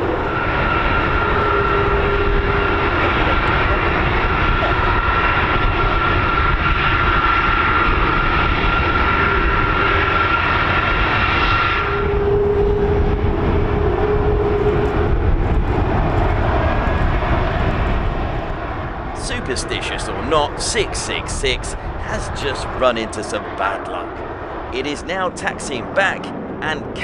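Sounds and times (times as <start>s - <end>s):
high engine whine: 0.0s - 27.0s
jet engines rumbling: 0.0s - 27.0s
low steady engine tone: 0.0s - 27.0s.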